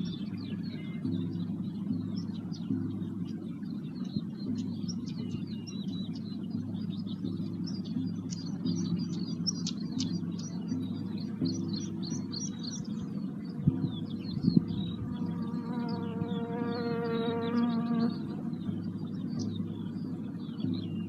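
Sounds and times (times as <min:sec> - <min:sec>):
low droning sound-bath tone: 0:00.0 - 0:21.0
small birds chirping: 0:00.0 - 0:21.0.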